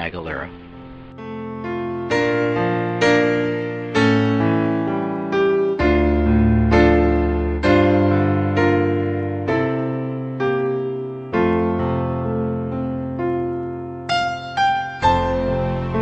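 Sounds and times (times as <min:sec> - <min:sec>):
slow electric piano chords: 0:00.0 - 0:16.0.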